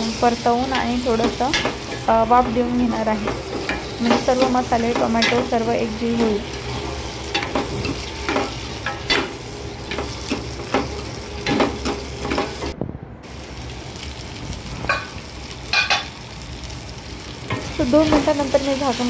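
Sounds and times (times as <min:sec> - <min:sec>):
food sizzling: 0:00.0 - 0:19.0.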